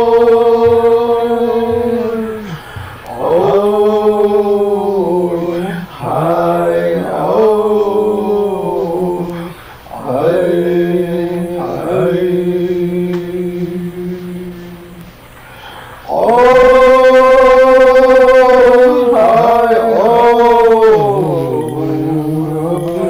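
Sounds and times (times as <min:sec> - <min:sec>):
men singing chant-like song: 0:00.0 - 0:23.0.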